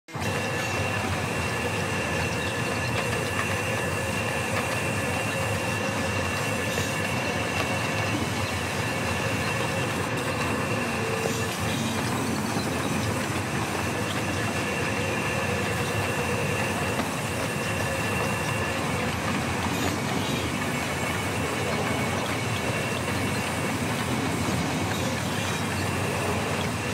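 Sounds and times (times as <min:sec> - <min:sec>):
band saw mill sawing log: 0:00.2 - 0:26.9.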